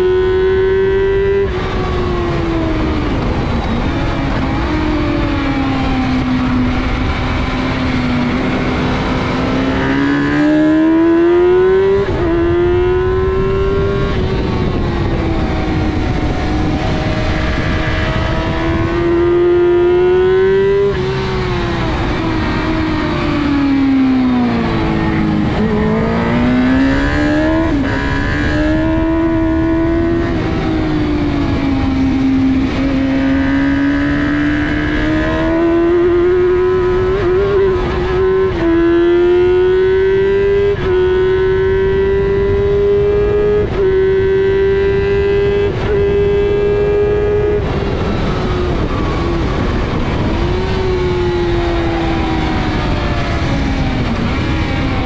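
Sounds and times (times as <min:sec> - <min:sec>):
motorcycle engine revving: 0:00.0 - 0:55.0
rushing wind: 0:00.0 - 0:55.0.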